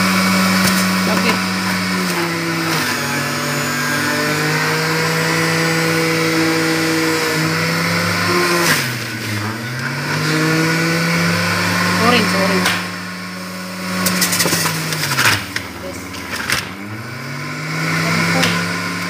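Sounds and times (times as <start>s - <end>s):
juicer motor humming: 0.0s - 19.0s.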